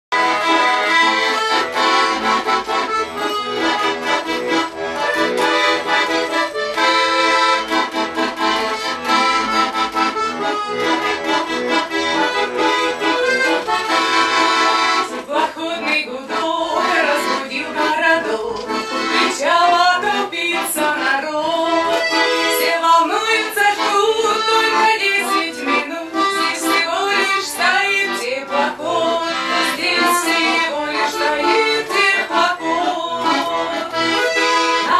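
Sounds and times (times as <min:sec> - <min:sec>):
button accordion playing folk tune: 0:00.1 - 0:34.9.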